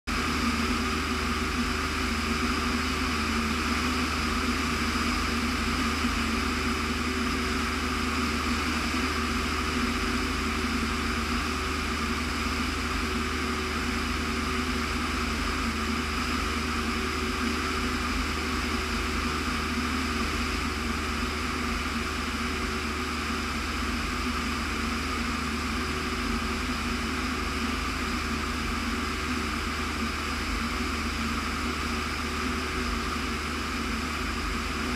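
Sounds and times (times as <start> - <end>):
propeller airplane engine droning: 0.1 - 34.9.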